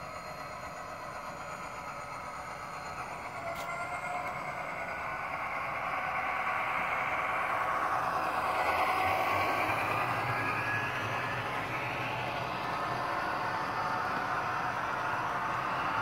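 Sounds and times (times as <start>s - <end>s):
diesel engine through small speaker: 0.0s - 16.0s
model train wheels on track: 0.0s - 16.0s.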